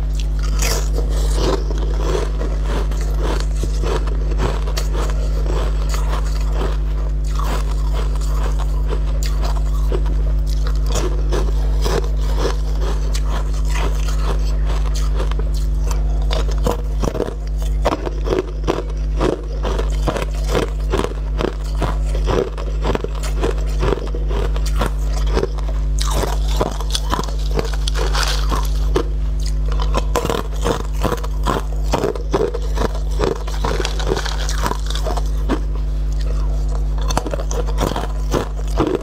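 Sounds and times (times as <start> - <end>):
crunching bites of candy: 0.0 - 39.0
low steady hum: 0.0 - 39.0.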